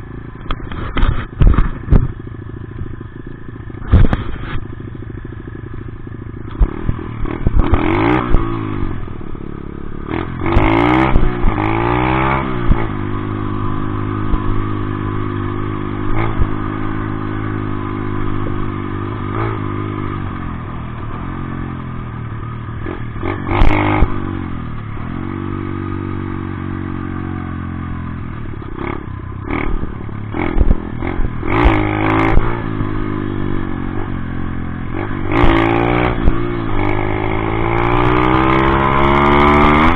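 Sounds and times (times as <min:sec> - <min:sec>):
dirt bike engine revving: 0:06.5 - 0:39.9.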